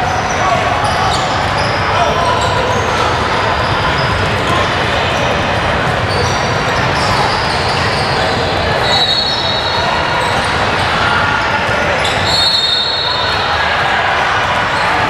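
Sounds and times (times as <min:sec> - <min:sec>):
echoing crowd voices: 0:00.0 - 0:15.0.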